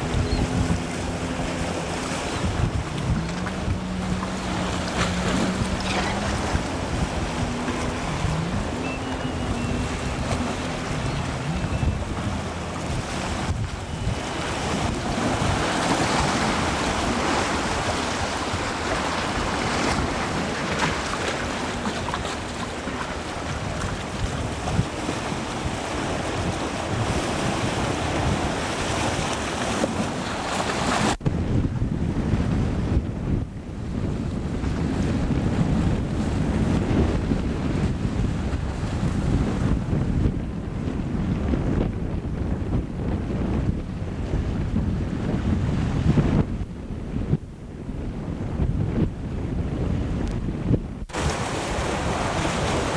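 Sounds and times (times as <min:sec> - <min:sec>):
water washing against boat: 0:00.0 - 0:31.5, 0:33.9 - 0:46.6, 0:48.2 - 0:52.9
wind buffeting microphone: 0:00.0 - 0:52.9.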